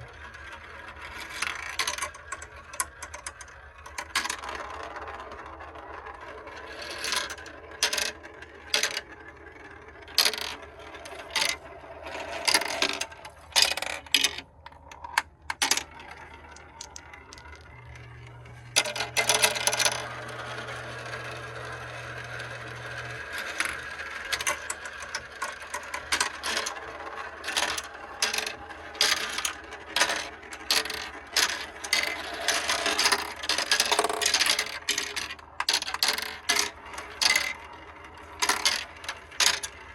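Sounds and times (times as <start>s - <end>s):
marbles rolling down plastic track: 0.0s - 39.9s.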